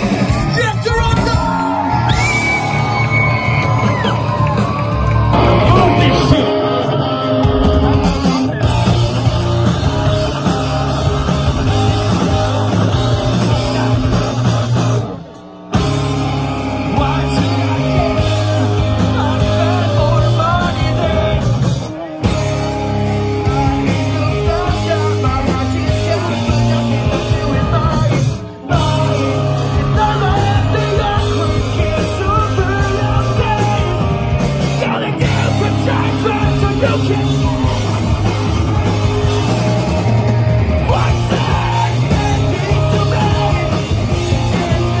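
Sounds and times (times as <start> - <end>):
bass: 0.0 - 45.0
drums: 0.0 - 45.0
electric guitars: 0.0 - 45.0
lead vocalist singing: 5.2 - 45.0.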